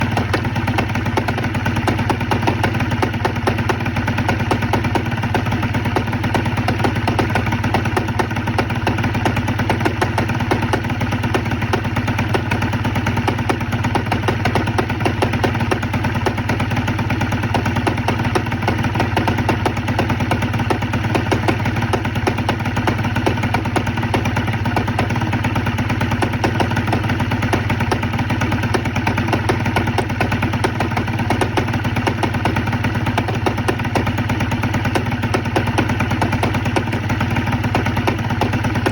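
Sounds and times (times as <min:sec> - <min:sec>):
scooter engine idling with knock: 0:00.0 - 0:38.9.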